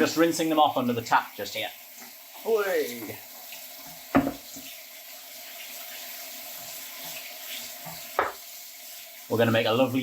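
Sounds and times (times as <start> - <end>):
tap water running over beans: 0.0 - 10.0.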